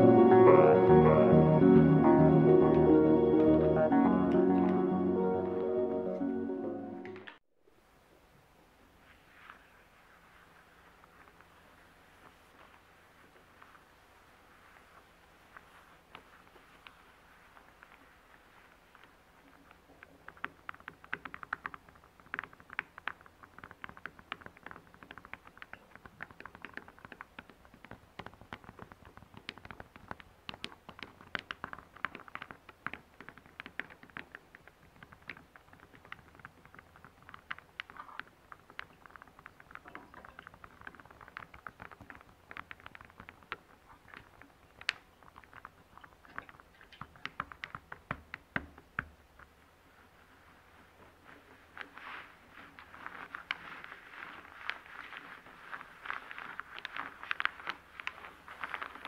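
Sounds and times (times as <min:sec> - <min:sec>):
wooden discs clicking together: 0:00.0 - 0:06.2, 0:10.2 - 0:59.0.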